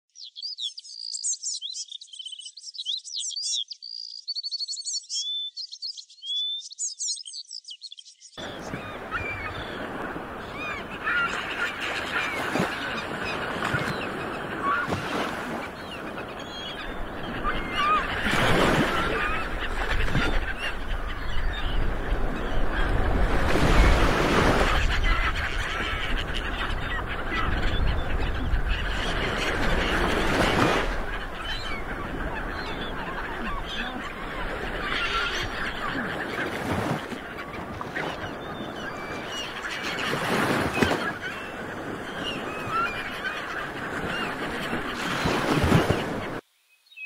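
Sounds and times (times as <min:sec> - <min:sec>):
songbird chirps and trills: 0:00.1 - 0:23.2, 0:24.7 - 0:47.0
bird chorus: 0:00.1 - 0:47.0.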